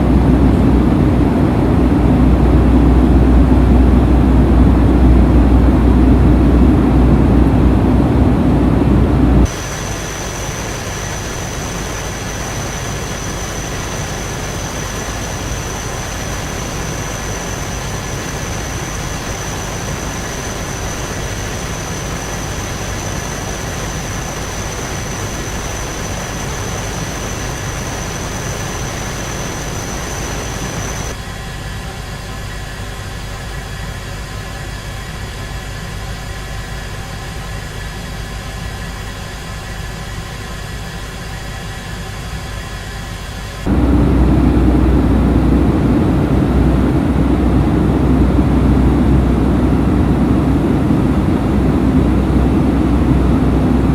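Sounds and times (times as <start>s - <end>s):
aircraft engine drone in flight: 0.0s - 53.9s.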